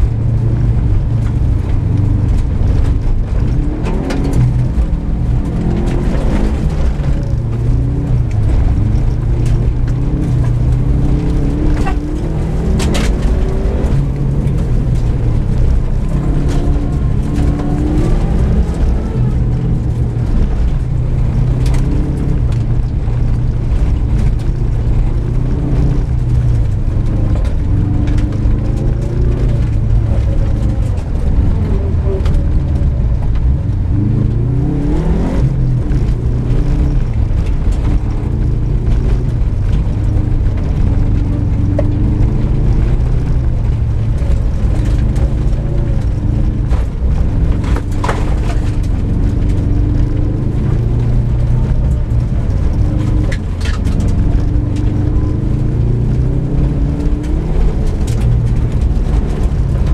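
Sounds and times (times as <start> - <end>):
car engine revving: 0.0 - 59.9
tyres rumbling on gravel: 0.0 - 59.9.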